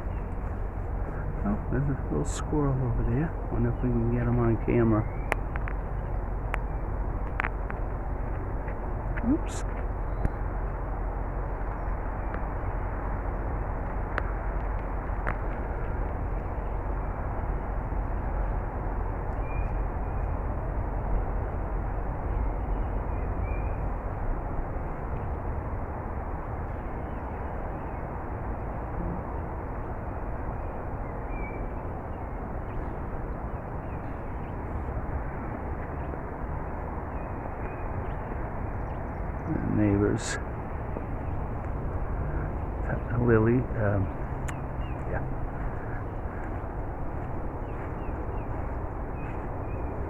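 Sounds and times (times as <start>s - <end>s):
rumbling outdoor background noise: 0.0s - 50.0s.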